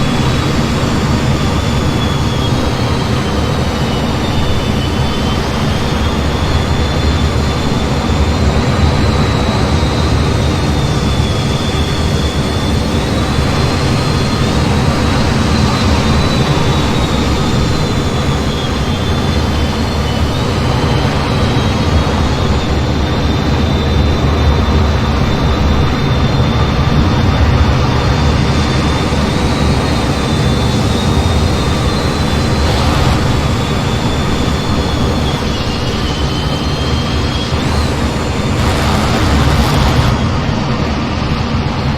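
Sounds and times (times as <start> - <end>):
faint high whine: 0.0 - 41.9
jet engine rush: 0.0 - 41.9.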